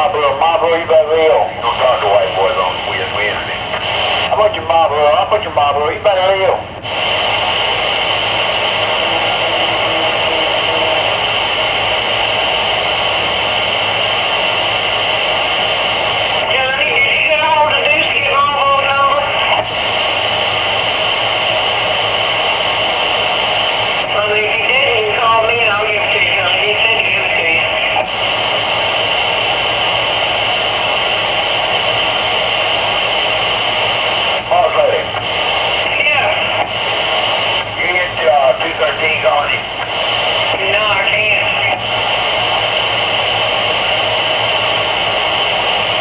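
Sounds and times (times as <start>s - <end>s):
radio static hiss: 0.0s - 46.0s
radio transmission: 0.0s - 46.0s.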